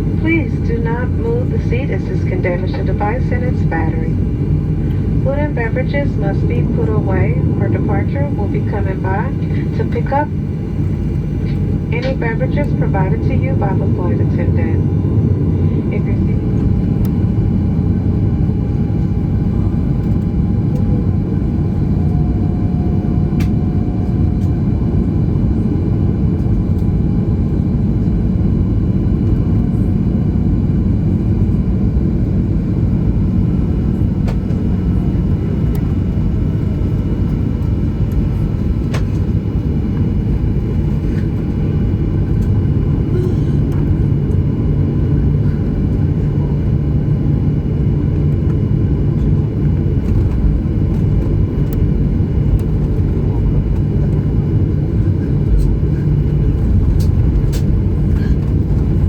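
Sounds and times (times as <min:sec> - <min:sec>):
aircraft cabin rumble: 0:00.0 - 0:59.0
low hum: 0:00.0 - 0:59.0.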